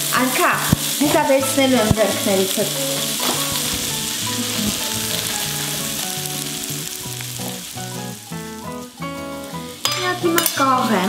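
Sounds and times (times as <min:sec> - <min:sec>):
soft background music: 0:00.0 - 0:11.0
vegetables sizzling in a pan: 0:00.0 - 0:11.0.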